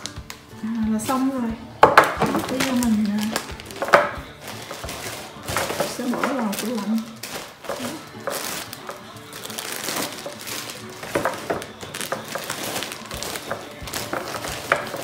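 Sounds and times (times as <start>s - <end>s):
plastic bags crinkling: 0.0s - 15.0s
soft background music: 0.0s - 15.0s.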